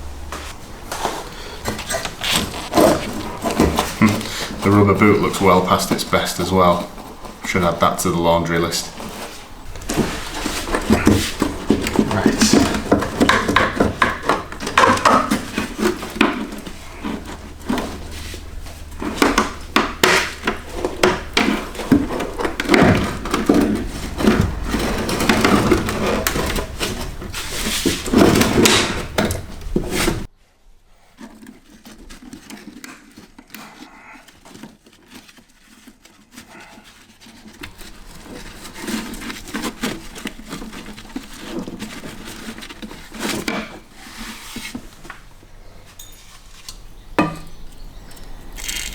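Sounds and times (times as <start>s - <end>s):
handling and rubbing: 0.0s - 48.9s
metal knocks clanks and scraping: 0.3s - 30.3s, 36.6s - 48.9s.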